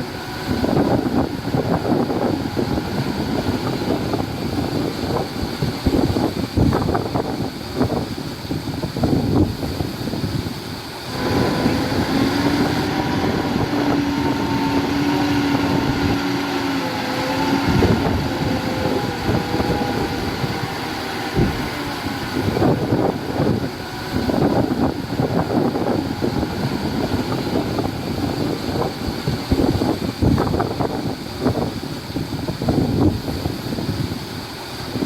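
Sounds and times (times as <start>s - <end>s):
heavy diesel machinery droning: 0.0s - 35.0s.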